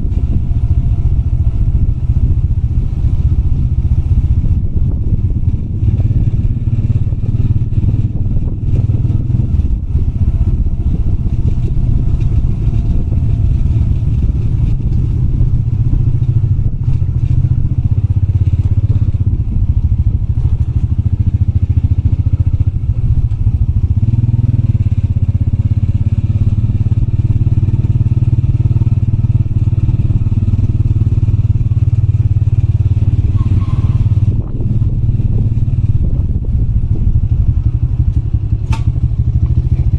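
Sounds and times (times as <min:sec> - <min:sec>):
motorbike engine running: 0:00.0 - 0:39.9
wind noise on microphone: 0:00.0 - 0:39.9.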